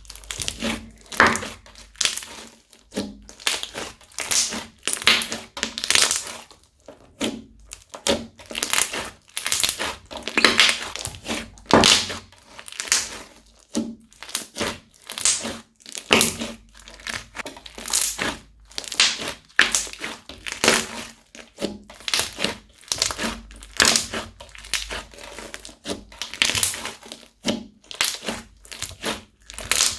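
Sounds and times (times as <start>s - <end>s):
crunchy slime crackling: 0.0s - 29.9s.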